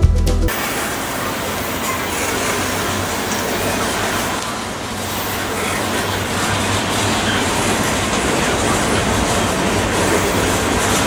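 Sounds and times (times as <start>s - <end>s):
train wheels rumbling on rails: 0.5s - 11.0s.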